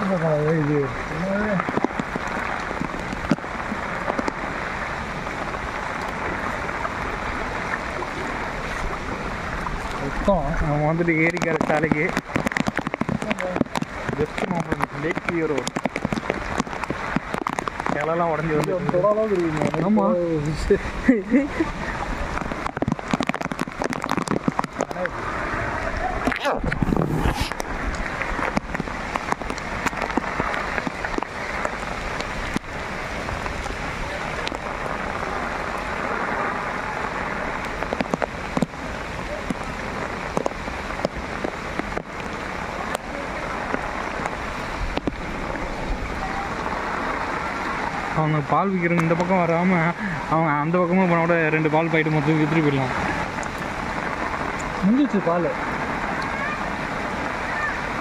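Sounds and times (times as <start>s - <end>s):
heavy rain on standing water: 0.0s - 58.0s.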